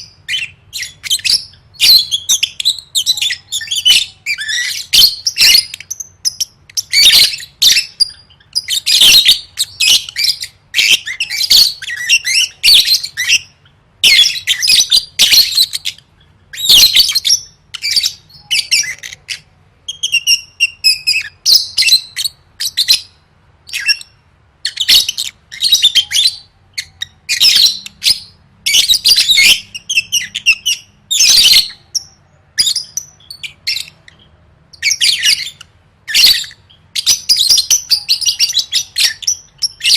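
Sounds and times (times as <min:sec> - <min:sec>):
lovebird chattering song: 0:00.0 - 0:39.9
thin bird chirps: 0:00.0 - 0:39.9.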